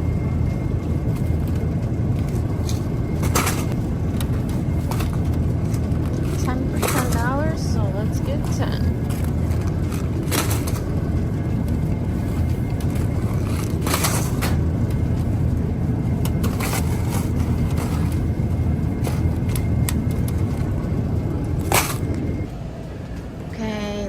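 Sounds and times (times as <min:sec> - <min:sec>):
shopping cart rolling: 0:00.0 - 0:23.0.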